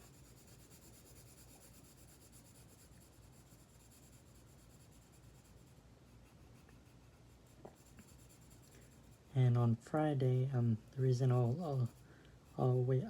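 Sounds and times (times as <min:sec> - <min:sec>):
colouring scratching on paper: 0:00.0 - 0:09.4, 0:10.5 - 0:13.0.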